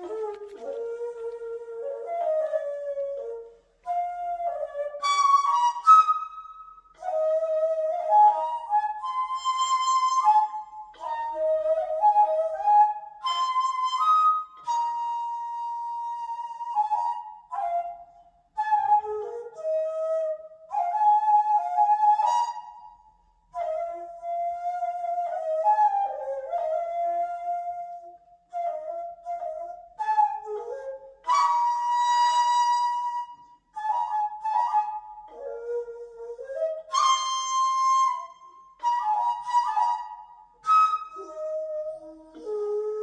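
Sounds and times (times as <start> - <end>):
bamboo flute slow melody: 0.0 - 43.0.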